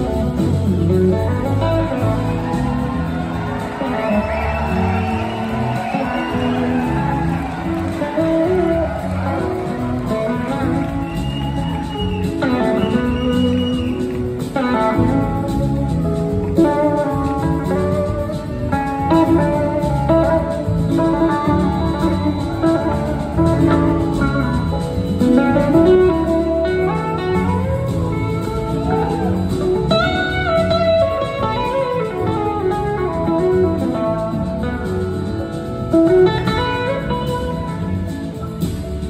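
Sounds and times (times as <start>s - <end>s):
blues-rock band playing: 0.0s - 39.0s
electric slide guitar lead: 0.0s - 39.0s.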